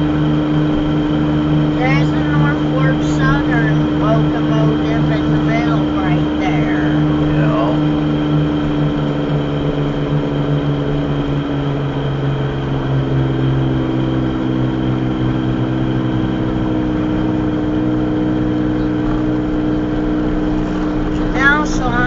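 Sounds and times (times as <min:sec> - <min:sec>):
car engine drone: 0:00.0 - 0:22.0
road noise inside car: 0:00.0 - 0:22.0.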